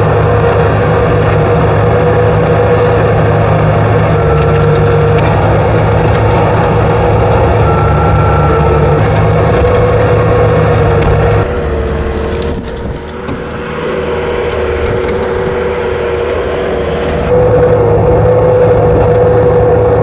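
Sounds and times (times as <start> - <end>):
skid steer engine rumble and whine: 0.0 - 20.0.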